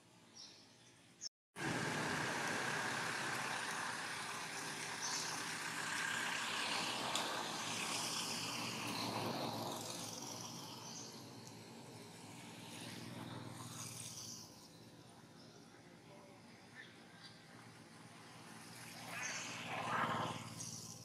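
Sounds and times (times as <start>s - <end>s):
outdoor rushing noise: 1.6s - 15.0s, 17.4s - 21.0s.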